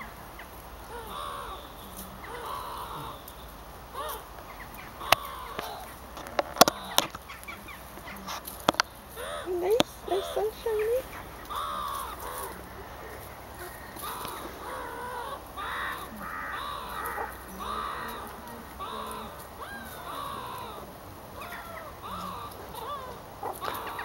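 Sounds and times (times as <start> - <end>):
harsh animal calls: 0.0 - 3.3, 3.9 - 24.0.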